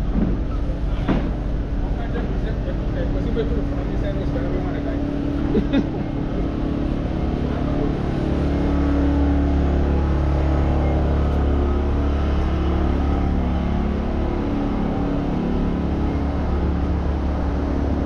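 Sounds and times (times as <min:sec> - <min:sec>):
street traffic engine rumble: 0:00.0 - 0:18.0.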